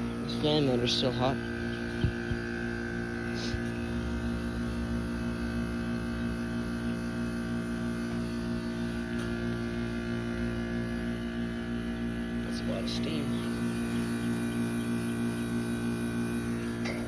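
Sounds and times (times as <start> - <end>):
heat pump electrical hum: 0.0 - 17.0.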